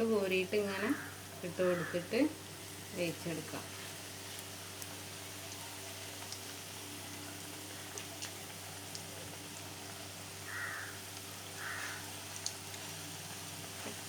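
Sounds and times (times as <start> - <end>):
batter sizzling in hot oil: 0.0 - 14.0.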